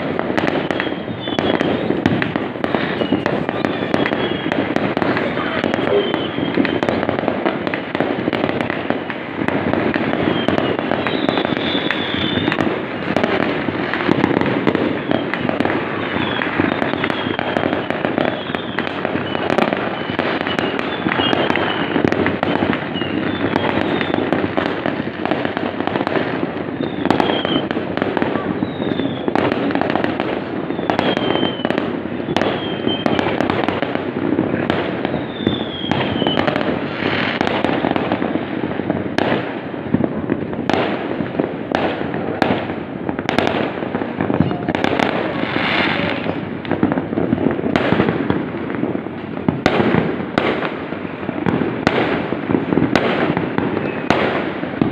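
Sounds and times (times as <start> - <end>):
falling firework whistles: 0.0 - 39.5, 43.3 - 47.0, 51.8 - 54.9
fireworks bangs and crackles: 0.0 - 54.9.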